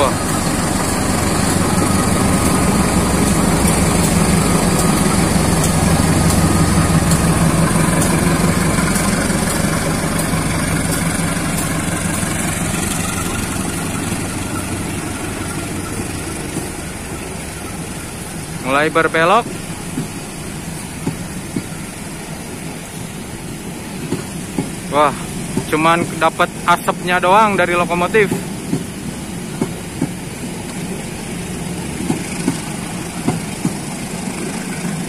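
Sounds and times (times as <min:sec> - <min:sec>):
diesel locomotive running: 0:00.0 - 0:35.0.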